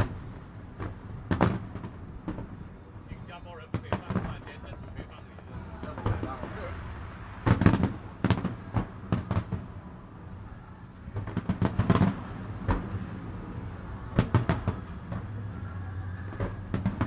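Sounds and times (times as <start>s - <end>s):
fireworks bangs and crackles: 0.0s - 17.0s
low steady rumble: 0.0s - 17.0s.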